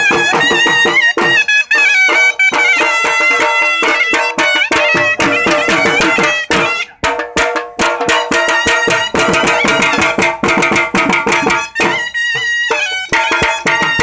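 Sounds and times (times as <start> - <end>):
fast drum beating: 0.0 - 14.0
reedy shawm melody: 0.0 - 14.0.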